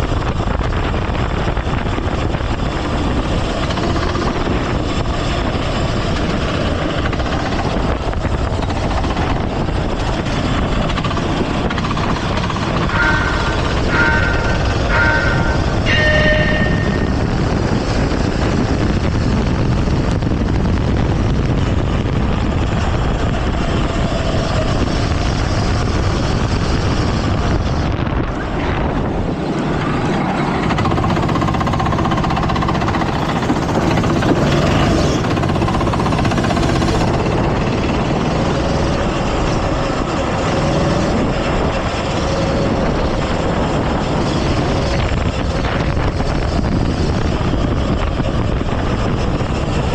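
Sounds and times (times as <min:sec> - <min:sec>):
go-kart engine running: 0:00.0 - 0:49.9.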